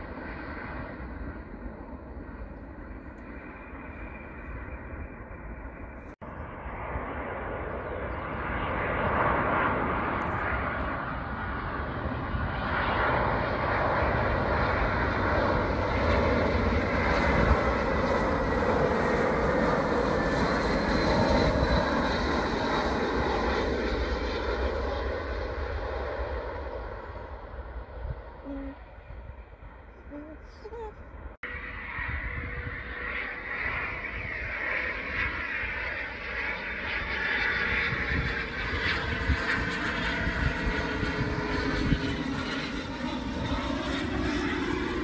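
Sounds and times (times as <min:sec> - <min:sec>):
jet engines roaring with high whine: 0:00.0 - 0:45.0.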